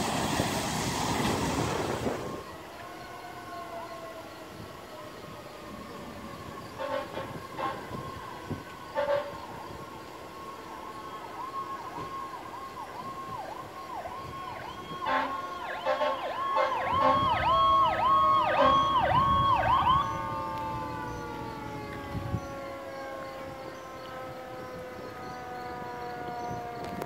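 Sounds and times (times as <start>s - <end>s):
second siren: 0.0s - 27.0s
high electronic siren: 0.4s - 27.0s
siren wail falling in pitch: 2.0s - 27.0s.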